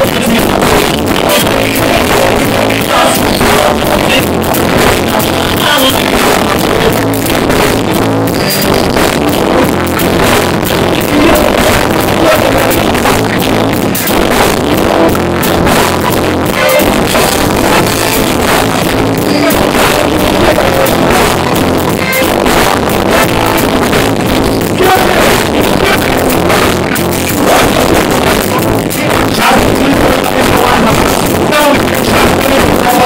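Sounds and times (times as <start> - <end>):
drum kit: 0.0 - 33.0
electric guitar: 0.0 - 33.0
live rock band playing: 0.0 - 33.0.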